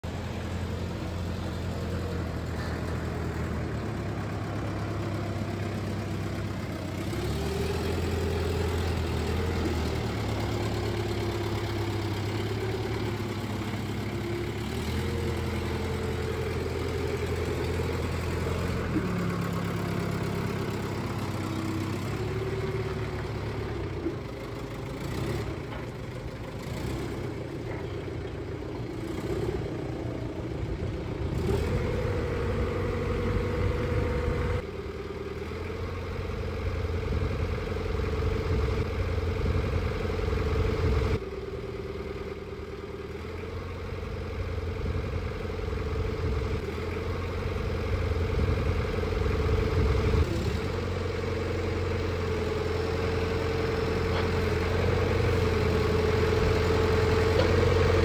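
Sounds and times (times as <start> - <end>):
diesel forklift engine running: 0.0 - 58.0.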